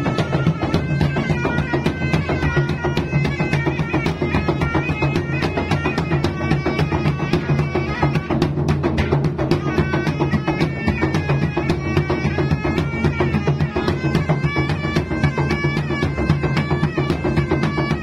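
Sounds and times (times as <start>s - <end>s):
fast drum strokes: 0.0s - 18.0s
reedy wind instrument: 0.0s - 18.0s.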